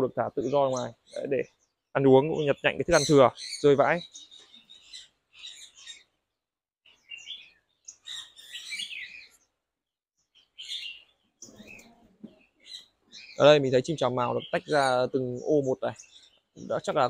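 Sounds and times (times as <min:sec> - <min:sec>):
songbirds chirping and twittering: 0:00.0 - 0:17.0.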